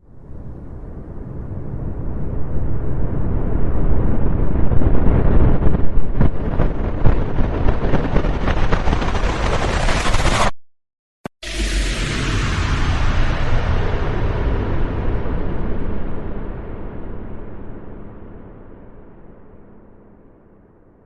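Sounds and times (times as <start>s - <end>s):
deep noisy rumble: 0.0s - 10.5s, 11.4s - 21.0s.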